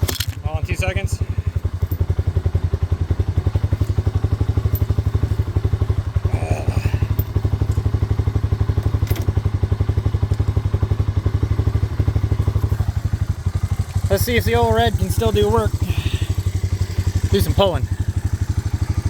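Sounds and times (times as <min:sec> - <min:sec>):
engine idling putter: 0:00.0 - 0:19.0.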